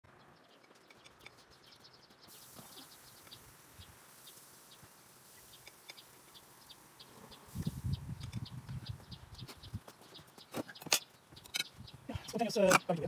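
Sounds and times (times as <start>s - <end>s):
faint bird chirps: 0.1s - 13.0s.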